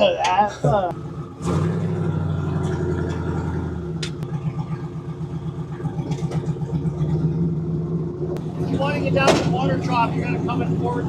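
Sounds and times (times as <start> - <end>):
car engine idling: 0.0 - 11.0
deep hum: 0.6 - 11.0.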